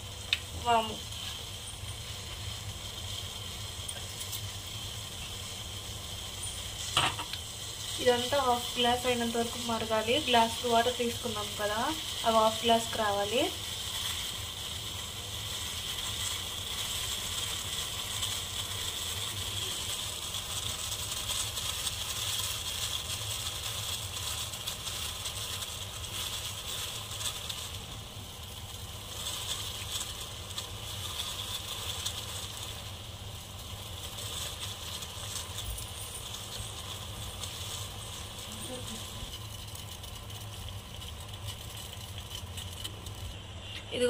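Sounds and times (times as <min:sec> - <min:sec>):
pot boiling with bubbling crackle: 0:00.0 - 0:44.0.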